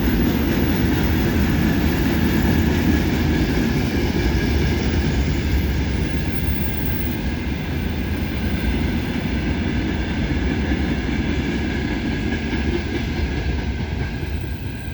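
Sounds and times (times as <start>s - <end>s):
freight train wheels rumbling: 0.0s - 14.9s.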